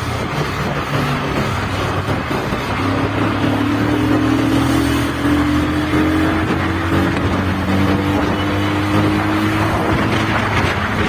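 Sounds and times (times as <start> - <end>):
motorcycle engine pulling steadily: 0.0 - 11.0.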